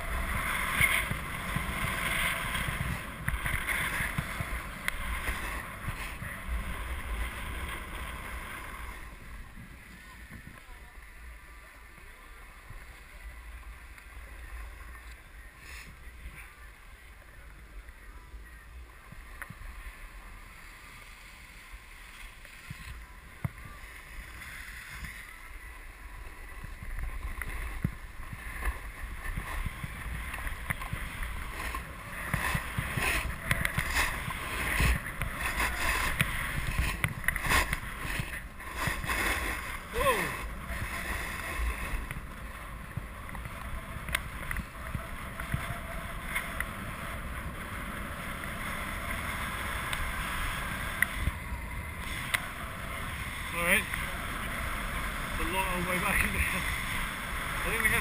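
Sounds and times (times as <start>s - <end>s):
skis scraping over snow: 0.0s - 58.0s
wind rumble on microphone: 0.0s - 58.0s.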